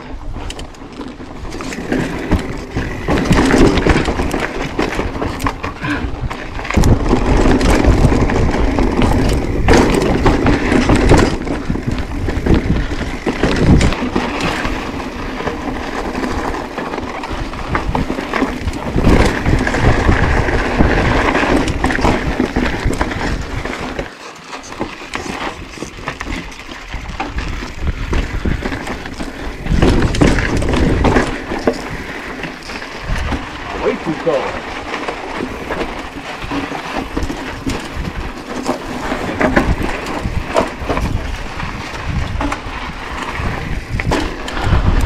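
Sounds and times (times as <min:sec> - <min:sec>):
wind noise: 0:00.0 - 0:24.1, 0:24.8 - 0:45.0
bike rattling over rocks: 0:00.0 - 0:45.0.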